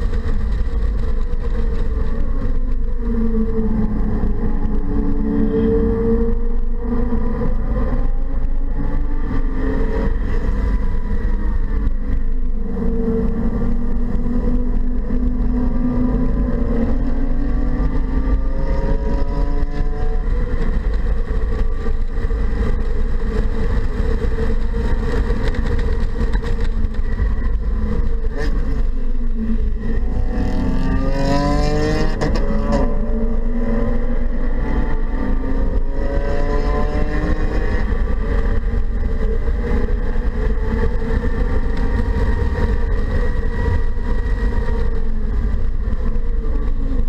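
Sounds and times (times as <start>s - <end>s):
car engine revving: 0.0s - 47.0s
road and wind noise: 0.0s - 47.0s.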